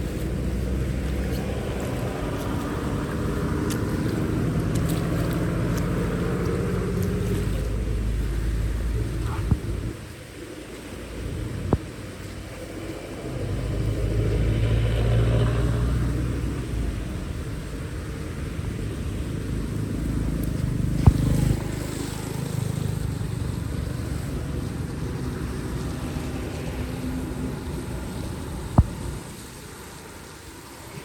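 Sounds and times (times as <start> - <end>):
vehicle engine passing: 0.0 - 10.0, 12.6 - 29.6.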